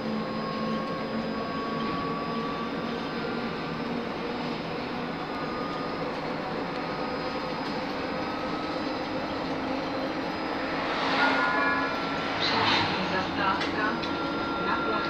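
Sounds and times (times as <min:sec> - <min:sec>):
electric drive and rolling wheels: 0:00.0 - 0:15.0
faint steady whine tones: 0:00.0 - 0:15.0.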